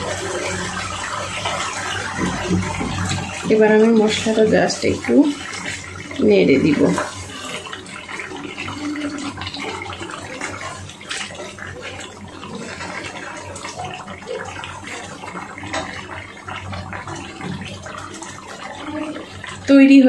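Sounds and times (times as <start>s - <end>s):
spatula stirring in a pan: 0.0s - 19.6s.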